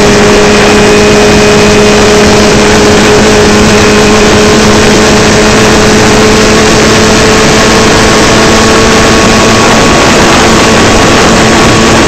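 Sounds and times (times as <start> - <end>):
race car engine at high pitch: 0.0 - 12.0
wind and road noise: 0.0 - 12.0.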